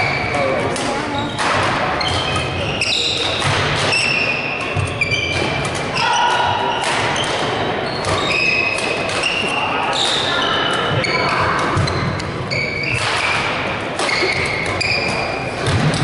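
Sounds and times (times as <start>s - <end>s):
shoes squeaking on court floor: 0.0s - 6.4s, 7.1s - 15.7s
rackets hitting shuttlecock: 0.6s - 16.0s.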